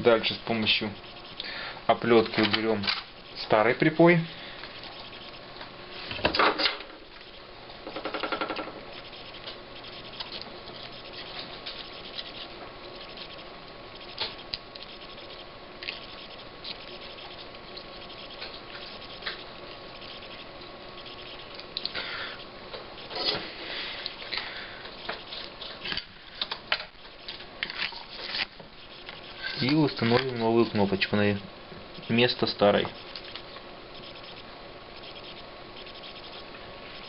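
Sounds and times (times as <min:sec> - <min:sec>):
small crackles and ticks: 0:00.2 - 0:05.7, 0:06.6 - 0:23.2, 0:23.9 - 0:37.0.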